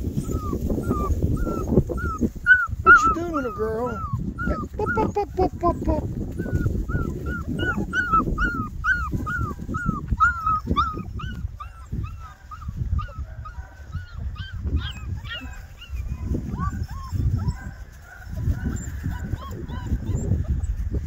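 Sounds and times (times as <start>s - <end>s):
puppies whimpering and yipping: 0.0s - 21.0s.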